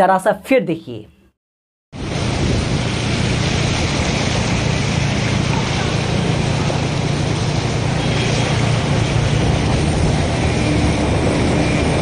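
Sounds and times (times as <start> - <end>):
even rushing noise: 2.0 - 12.0
heavy vehicle engine droning: 2.0 - 12.0.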